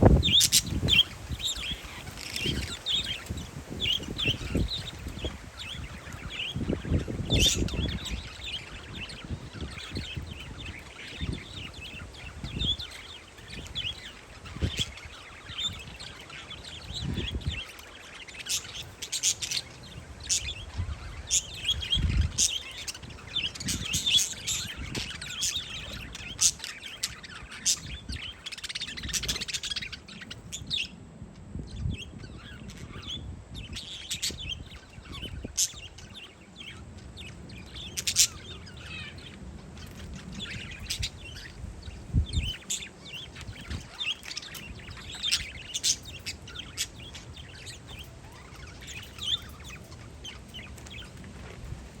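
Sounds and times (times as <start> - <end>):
parakeets chirping: 0.0 - 31.0, 31.7 - 52.0
wind rumbling on microphone: 0.0 - 52.0.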